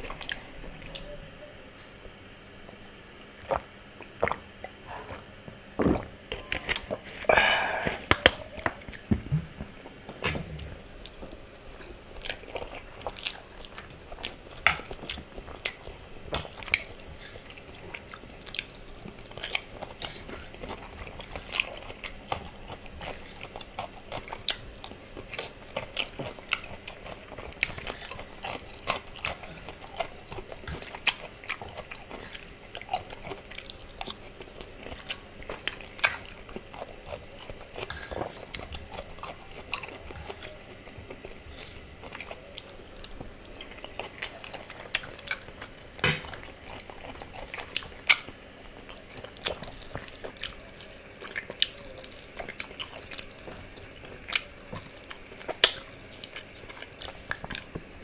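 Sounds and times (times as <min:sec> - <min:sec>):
wet chewing and biting: 0:10.1 - 0:57.9.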